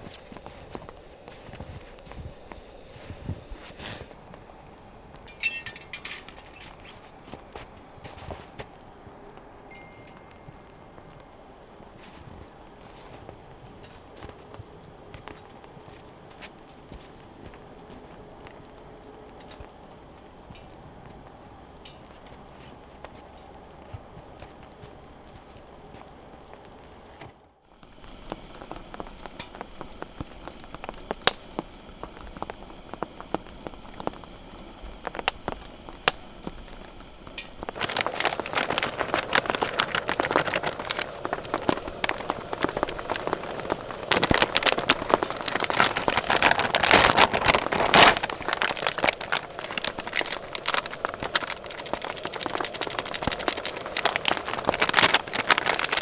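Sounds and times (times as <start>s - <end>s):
rain falling on a surface: 0.0s - 27.0s, 27.8s - 56.0s.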